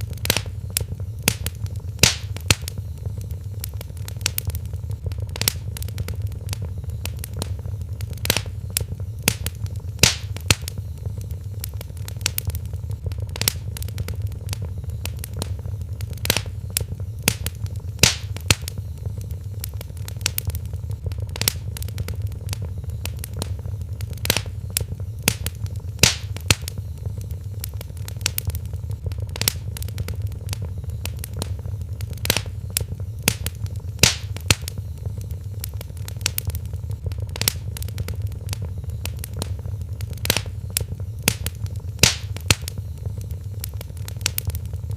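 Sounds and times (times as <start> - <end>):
sharp pops of fire: 0.0 - 44.9
wood fire crackling: 0.0 - 44.9.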